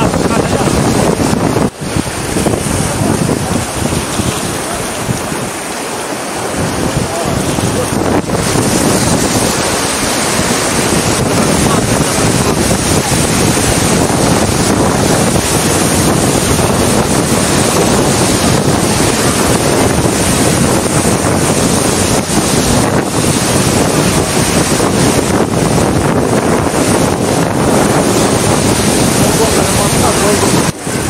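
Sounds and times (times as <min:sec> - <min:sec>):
whitewater rapids rushing: 0:00.0 - 0:31.0
wind buffeting microphone: 0:00.0 - 0:31.0.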